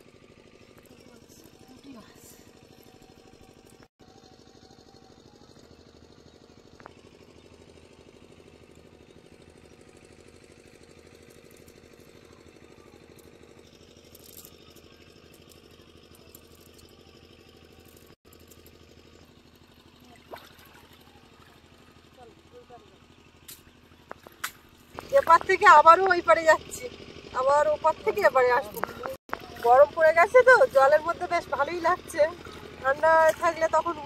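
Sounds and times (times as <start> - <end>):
faint engine chugging: 0.0 - 34.0.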